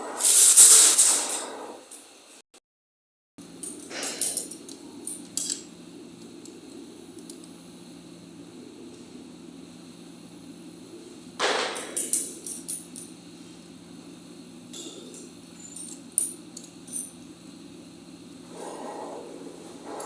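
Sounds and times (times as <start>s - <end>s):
steady low hum: 3.4s - 20.0s.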